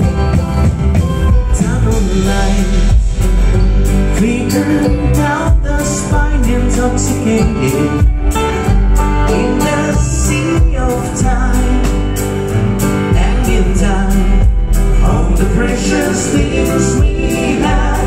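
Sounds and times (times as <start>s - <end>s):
bluegrass band playing: 0.0s - 18.0s
man singing: 1.4s - 12.3s, 12.9s - 18.0s.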